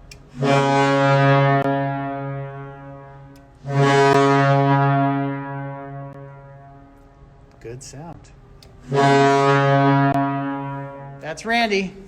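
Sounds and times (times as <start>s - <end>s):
arena goal horn blasts: 0.3s - 7.4s, 8.8s - 12.0s.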